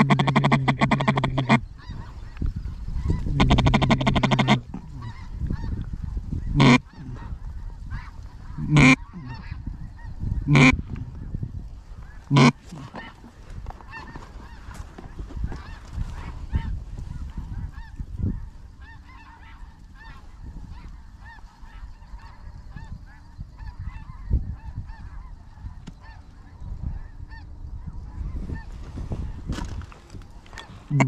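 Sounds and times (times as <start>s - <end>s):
geese honking: 0.0s - 29.5s, 30.1s - 31.0s.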